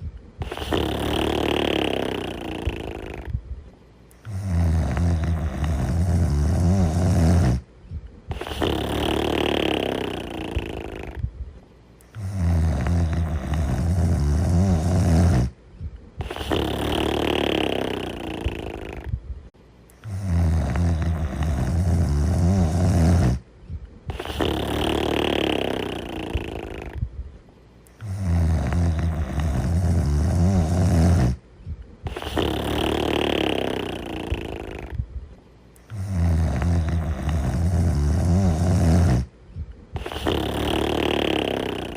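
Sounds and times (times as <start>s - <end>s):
deep snoring: 0.0s - 3.4s, 4.2s - 7.7s, 8.3s - 11.3s, 12.0s - 15.6s, 16.2s - 19.2s, 20.0s - 23.5s, 24.1s - 27.1s, 27.9s - 31.4s, 32.0s - 35.1s, 35.8s - 39.3s, 39.9s - 41.9s.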